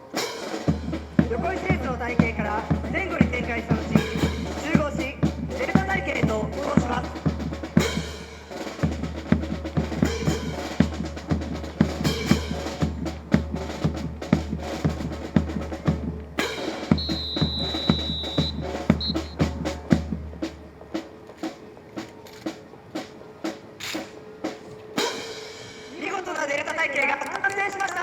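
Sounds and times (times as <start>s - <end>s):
drum-led percussion music: 0.0s - 28.0s.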